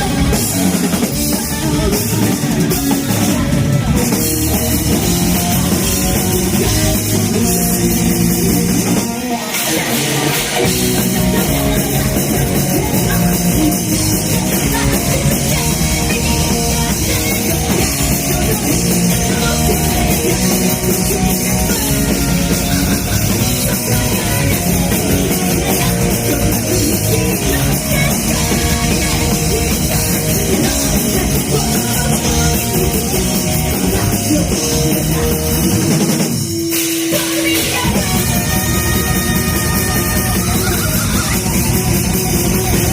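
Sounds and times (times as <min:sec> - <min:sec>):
heavy metal band playing: 0:00.0 - 0:42.9.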